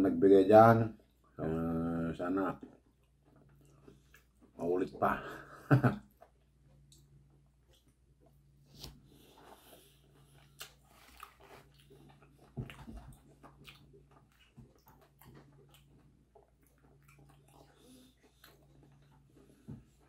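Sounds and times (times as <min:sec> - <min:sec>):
chewing crunchy fried food: 0:02.2 - 0:04.8, 0:05.4 - 0:20.0.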